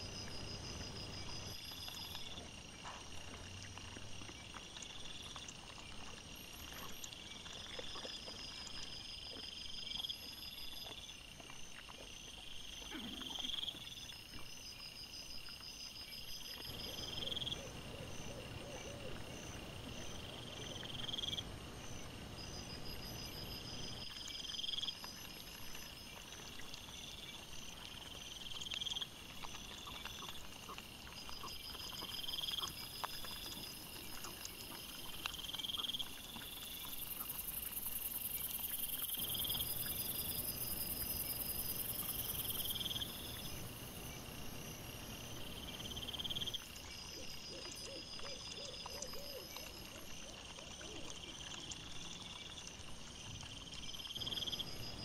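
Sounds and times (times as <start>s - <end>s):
insects chirping: 0.0s - 55.0s
pulsed insect trills: 0.0s - 55.0s.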